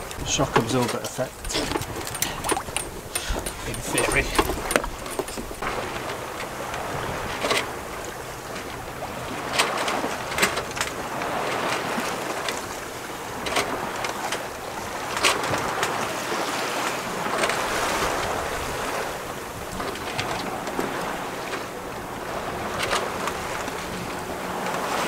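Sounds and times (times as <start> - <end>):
water rushing along boat hull: 0.0 - 25.0
water slapping against hull: 0.0 - 25.0.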